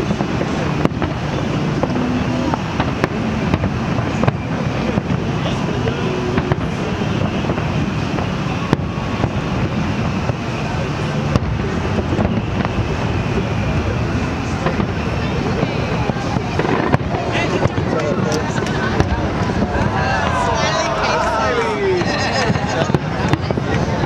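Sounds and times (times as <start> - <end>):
low rumble of bursts: 0.0 - 24.0.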